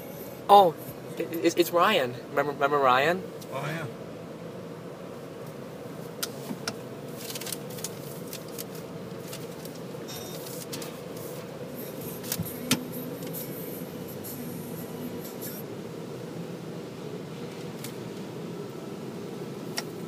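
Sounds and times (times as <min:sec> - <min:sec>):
car wash machinery hum: 0:00.0 - 0:20.0.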